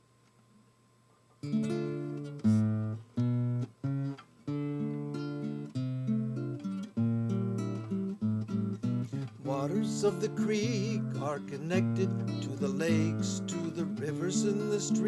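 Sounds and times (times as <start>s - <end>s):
acoustic guitar strumming chords: 1.4s - 15.0s.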